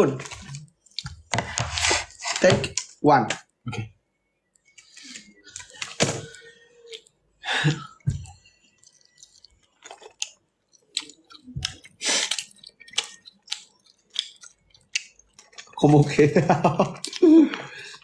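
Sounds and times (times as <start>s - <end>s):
person chewing candy: 0.2s - 3.0s, 4.3s - 18.0s.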